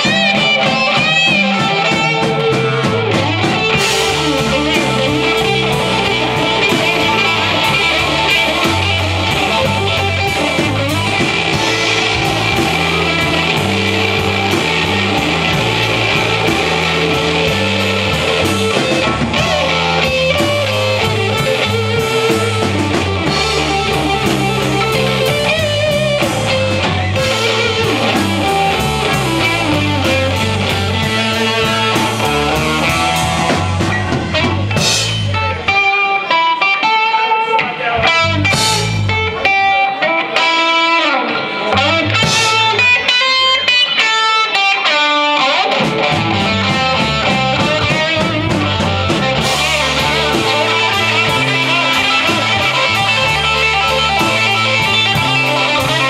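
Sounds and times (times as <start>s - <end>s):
electric bass: 0.0s - 36.6s, 37.5s - 56.0s
drums: 0.0s - 56.0s
electric guitar: 0.0s - 56.0s.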